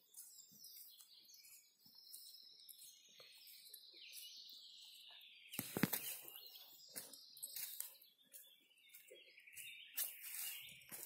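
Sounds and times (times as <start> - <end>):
birds twittering: 0.0 - 11.0
footsteps on dirt track: 0.0 - 11.0.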